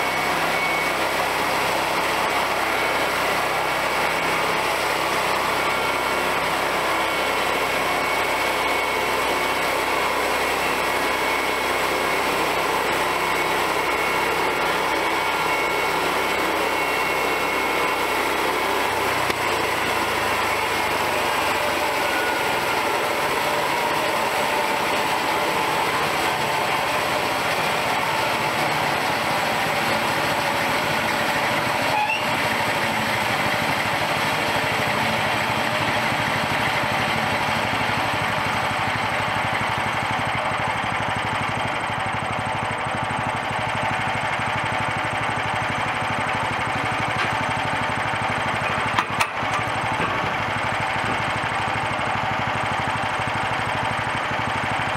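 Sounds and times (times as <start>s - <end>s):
small gasoline engine running: 0.0s - 54.9s.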